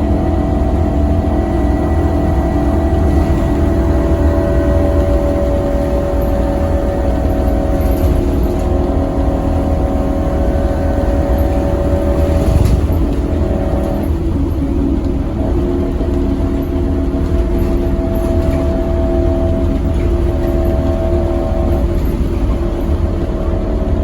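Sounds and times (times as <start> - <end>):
bus engine low rumble: 0.0 - 24.0
bus whine: 0.0 - 24.0.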